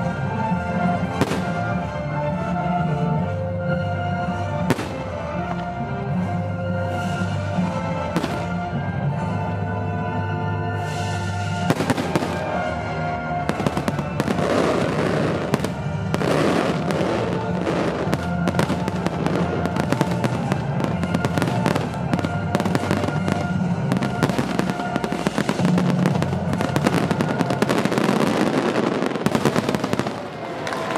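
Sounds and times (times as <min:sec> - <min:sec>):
music playing: 0:00.0 - 0:30.9.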